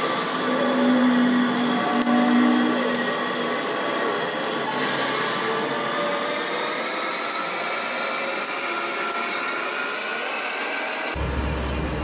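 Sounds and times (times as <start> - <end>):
metal lathe rumbling: 0.0 - 11.2.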